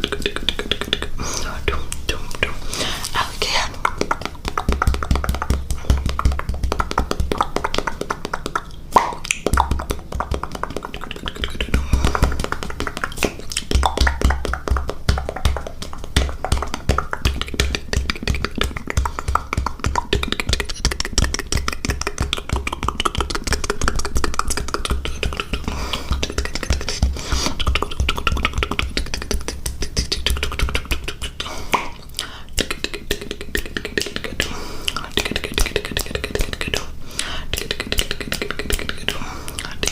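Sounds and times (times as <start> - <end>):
wet mouth clicking and popping: 0.0 - 1.2, 3.8 - 39.9.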